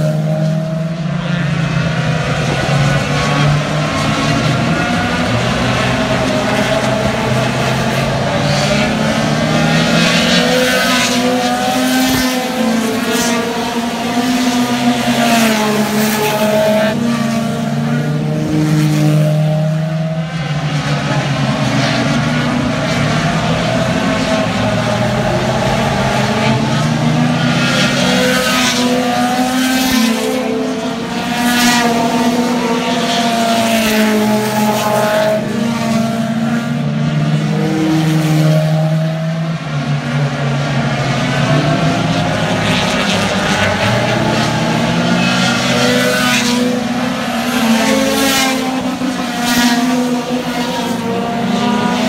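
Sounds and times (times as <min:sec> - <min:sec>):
race car engines passing: 0:00.0 - 0:52.0.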